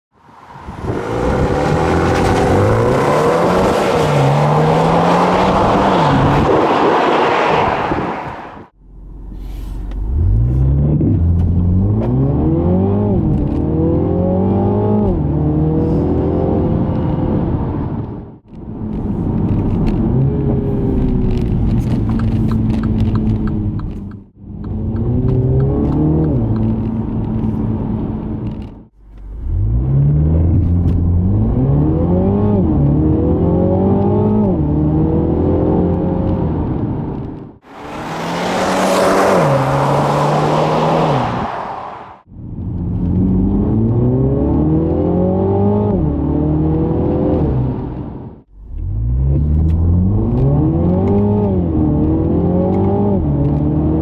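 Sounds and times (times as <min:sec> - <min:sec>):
car engine accelerating at full throttle: 0:00.3 - 0:08.7, 0:09.9 - 0:54.0.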